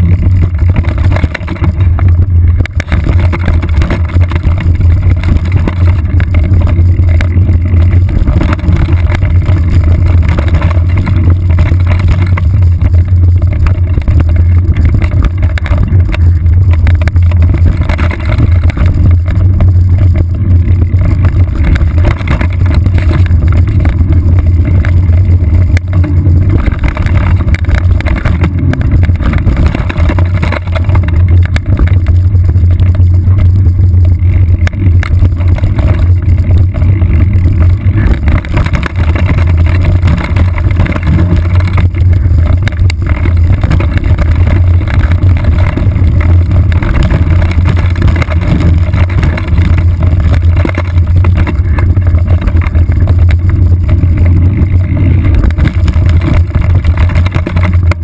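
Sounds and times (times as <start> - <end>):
low rumble of trail ride: 0.0 - 58.0.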